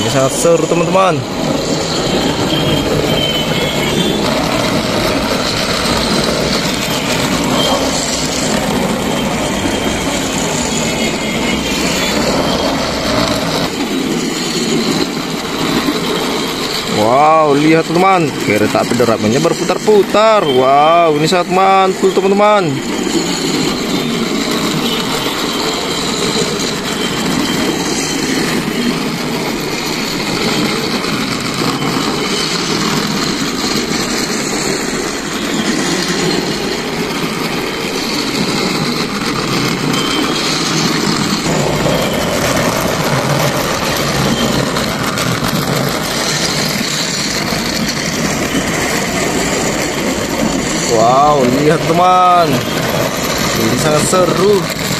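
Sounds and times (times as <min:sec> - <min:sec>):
toy trains whirring and rattling: 0:00.0 - 0:54.9.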